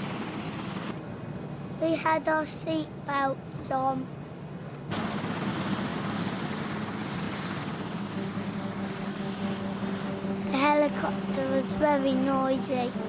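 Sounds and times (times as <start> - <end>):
helicopter rotors running: 0.0 - 13.0
high turbine whine: 0.0 - 13.0.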